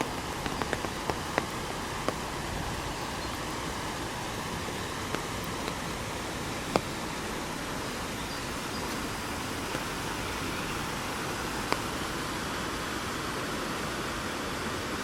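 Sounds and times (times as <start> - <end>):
heavy rain on an umbrella: 0.0 - 15.0.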